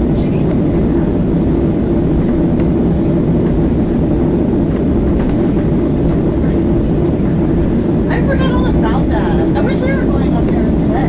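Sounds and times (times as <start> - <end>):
airplane cabin rumble while taxiing: 0.0 - 11.0.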